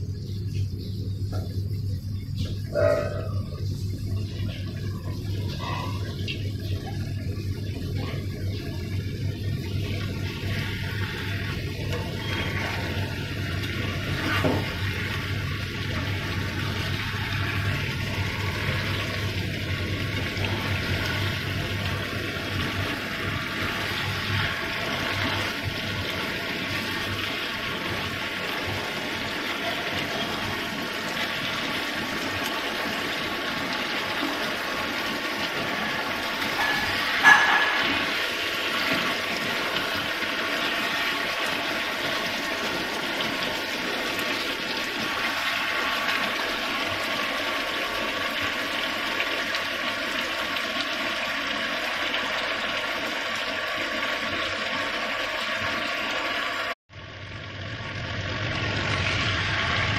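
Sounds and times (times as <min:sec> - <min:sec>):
food sizzling in a pan: 0:01.7 - 0:59.9.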